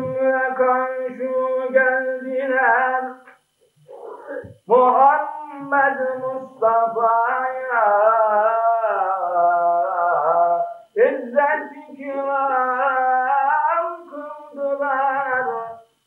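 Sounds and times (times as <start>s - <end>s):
man chanting: 0.0s - 3.3s, 4.1s - 15.8s.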